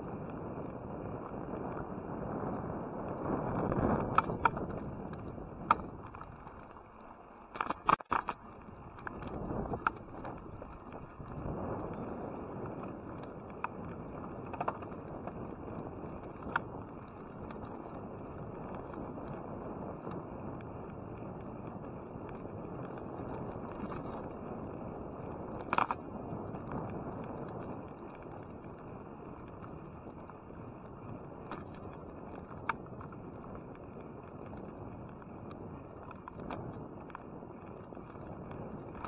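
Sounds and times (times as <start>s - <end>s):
bike rattles and clicks: 0.0s - 39.0s
tyre and wind noise: 0.0s - 39.0s.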